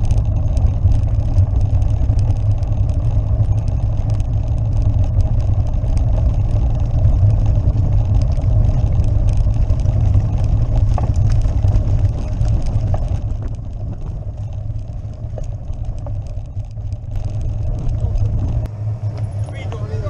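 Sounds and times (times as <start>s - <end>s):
bike rumbling over cobblestones: 0.0s - 20.0s
rattling: 0.0s - 20.0s.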